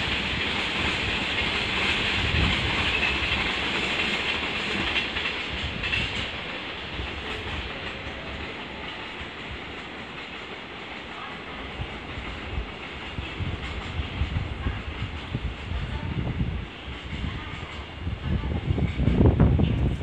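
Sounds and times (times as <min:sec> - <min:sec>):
train rushing along tracks: 0:00.0 - 0:20.0.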